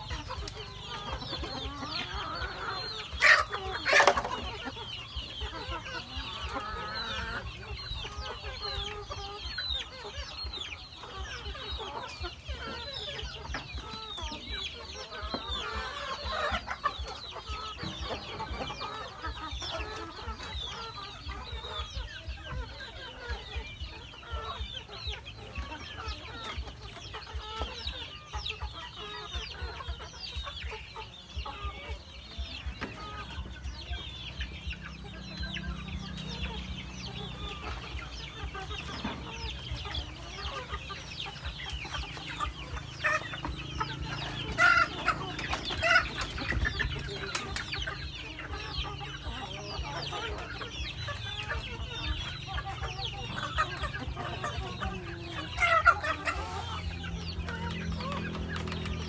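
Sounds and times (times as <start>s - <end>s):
chickens clucking and calling: 0.0s - 59.0s.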